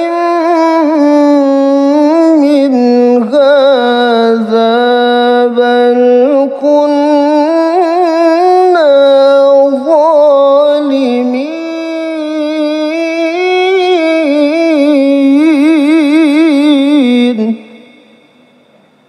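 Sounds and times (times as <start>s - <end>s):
man reciting melodically: 0.0s - 18.7s.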